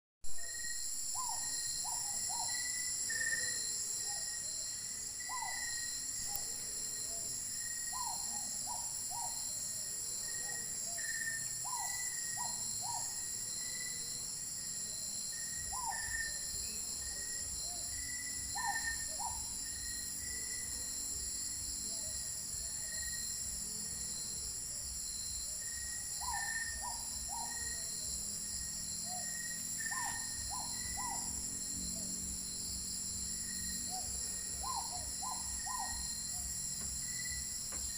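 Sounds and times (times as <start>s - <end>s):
faint chirps: 0.3s - 37.9s
insects trilling: 0.4s - 37.9s.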